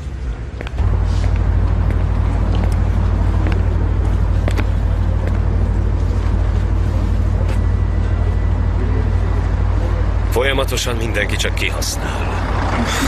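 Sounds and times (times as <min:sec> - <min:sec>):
low rumble with hiss: 0:00.0 - 0:13.0.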